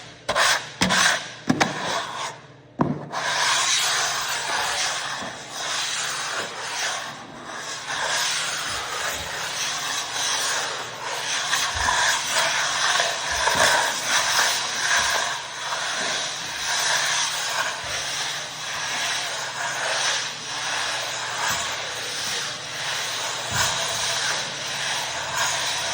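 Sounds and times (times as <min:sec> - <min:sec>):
rubbing oil into wooden floor: 0:03.1 - 0:25.9.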